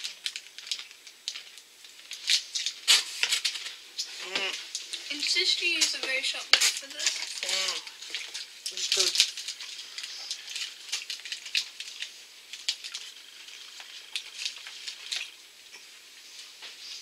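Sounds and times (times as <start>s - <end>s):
packaging crinkling and rustling: 0.0s - 15.4s.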